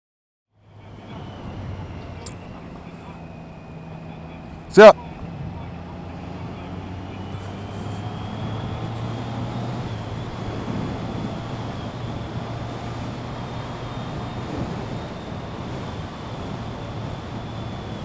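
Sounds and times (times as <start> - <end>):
wind and road rush: 0.5 - 18.0.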